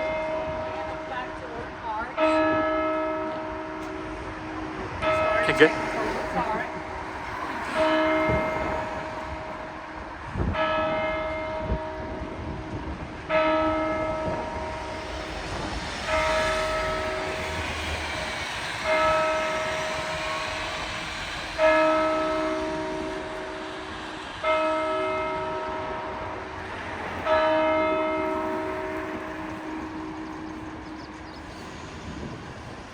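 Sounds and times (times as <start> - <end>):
church bell tolling: 0.0 - 26.6, 27.2 - 30.9.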